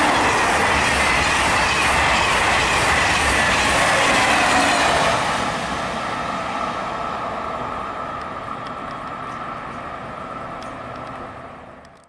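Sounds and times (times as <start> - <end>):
high-speed train rolling noise: 0.0 - 12.0.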